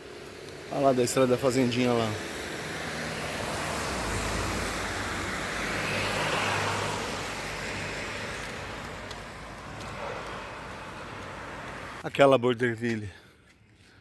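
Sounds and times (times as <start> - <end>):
car engine hum: 0.0 - 12.0
tyre and traffic noise: 0.0 - 14.0.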